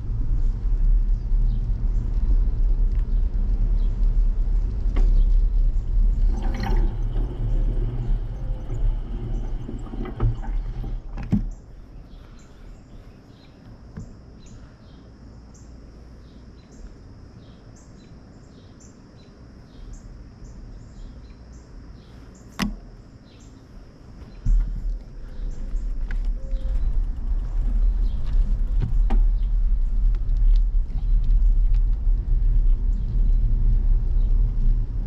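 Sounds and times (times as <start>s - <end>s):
wind and road rumble: 0.0s - 35.0s.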